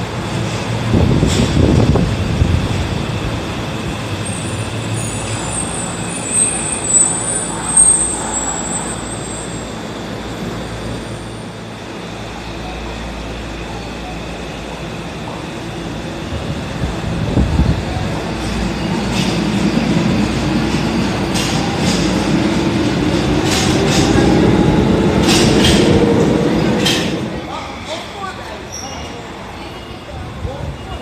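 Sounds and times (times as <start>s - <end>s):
subway train rumbling: 0.0s - 31.0s.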